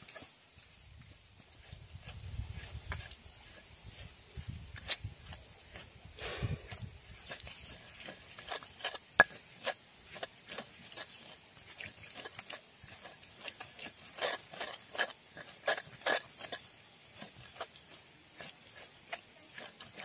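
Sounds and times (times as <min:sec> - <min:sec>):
pestle squelching and scraping: 0:00.0 - 0:20.0.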